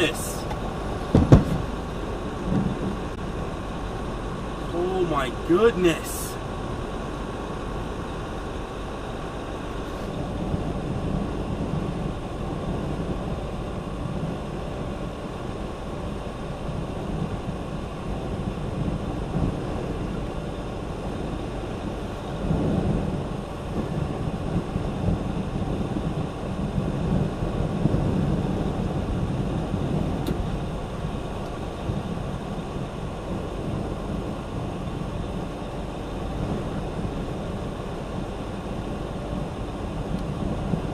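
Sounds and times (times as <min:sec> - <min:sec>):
truck engine rumble in cab: 0:00.0 - 0:40.9.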